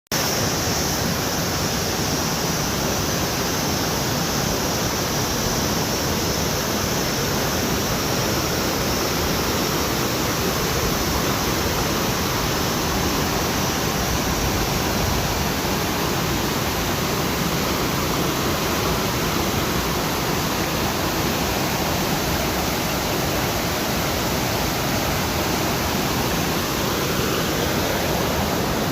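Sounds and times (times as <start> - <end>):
fast-flowing water rushing: 0.1 - 28.9.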